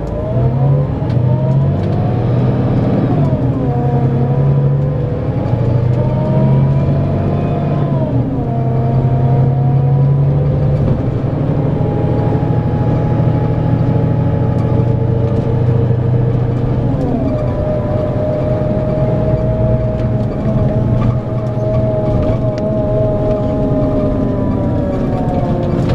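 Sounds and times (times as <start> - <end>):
diesel coach engine whining: 0.0 - 25.9.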